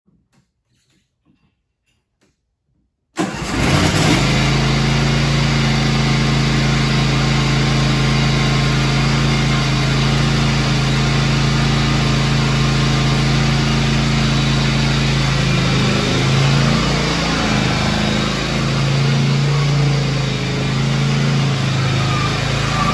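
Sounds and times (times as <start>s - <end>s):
mower engine starting and running: 3.2s - 22.9s.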